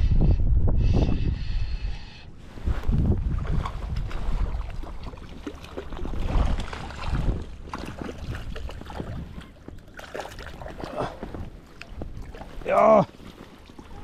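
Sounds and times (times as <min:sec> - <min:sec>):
wind rumbling on microphone: 0:00.0 - 0:14.0
water splashing and sloshing: 0:02.4 - 0:14.0.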